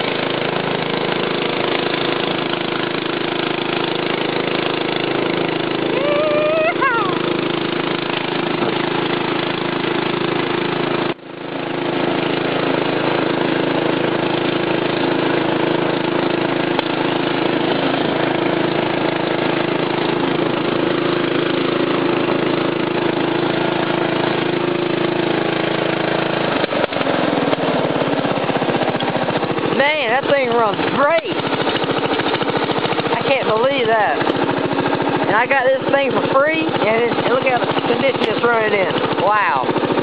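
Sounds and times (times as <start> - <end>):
lawn tractor engine running: 0.0 - 40.0.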